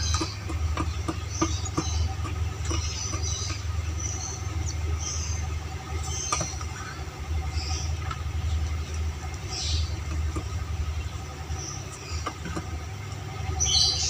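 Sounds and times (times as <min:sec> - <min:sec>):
background machinery rumble: 0:00.0 - 0:14.0.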